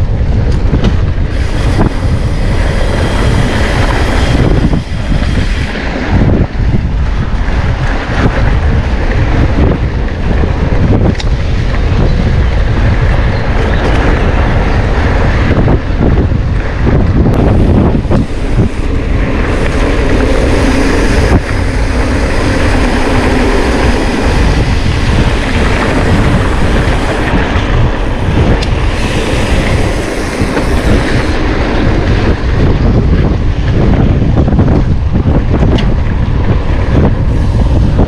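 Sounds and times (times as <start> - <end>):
bike rattling: 0.0 - 38.0
wind noise on microphone: 0.0 - 38.0.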